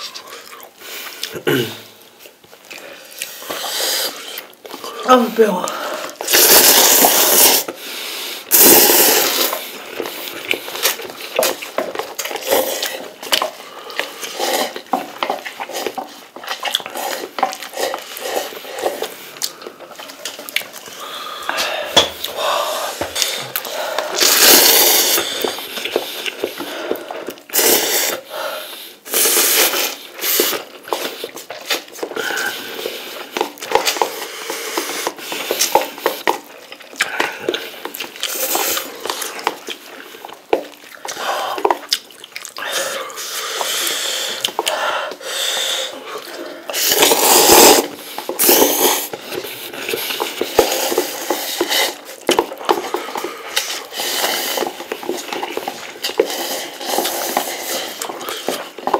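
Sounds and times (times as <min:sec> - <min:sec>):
chewing: 0:00.0 - 0:05.0, 0:05.7 - 0:58.9
noodles being slurped: 0:00.0 - 0:58.9
paper cups rustling and knocking: 0:05.8 - 0:28.1, 0:29.0 - 0:41.9, 0:46.0 - 0:58.9.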